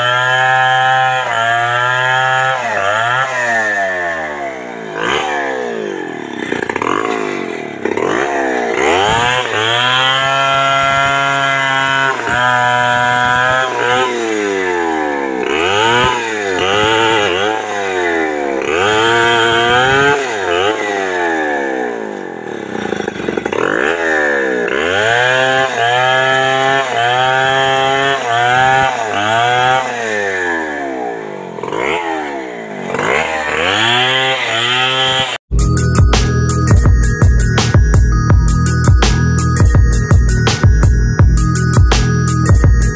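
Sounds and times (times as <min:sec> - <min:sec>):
chainsaw revving and cutting: 0:00.0 - 0:42.9.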